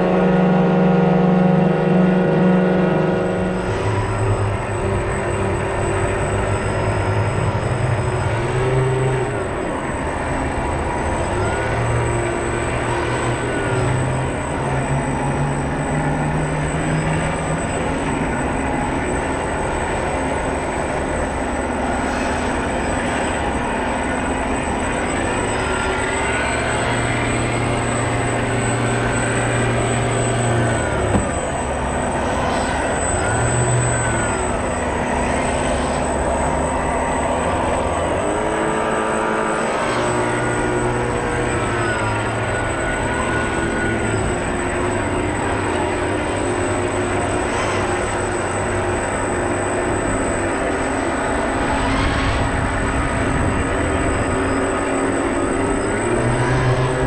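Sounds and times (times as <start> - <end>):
model boat motors whining: 0.0 - 57.0.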